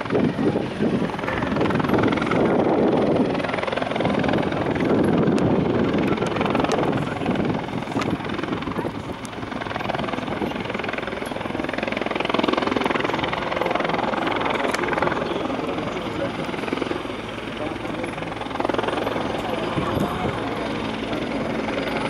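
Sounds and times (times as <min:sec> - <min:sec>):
helicopter rotor beating: 0:00.0 - 0:22.0.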